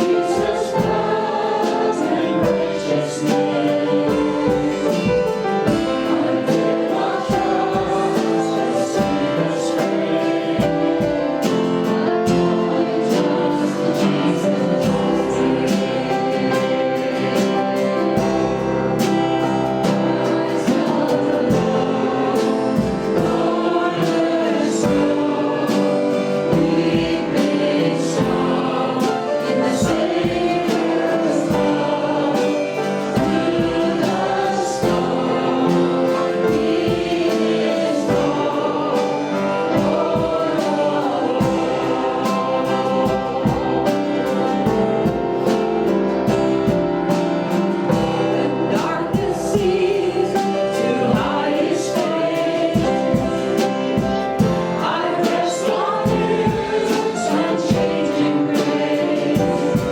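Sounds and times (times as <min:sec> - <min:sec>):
group singing worship song: 0:00.0 - 0:59.9
instrumental accompaniment: 0:00.0 - 0:59.9.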